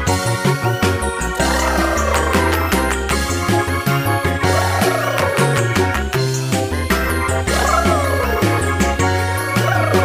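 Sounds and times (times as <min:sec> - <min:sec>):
upbeat music with bouncing bass: 0:00.0 - 0:10.0.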